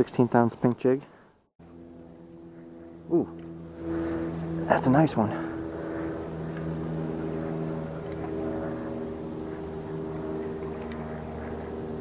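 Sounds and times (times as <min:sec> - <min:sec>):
steady motor hum: 0:01.6 - 0:12.0.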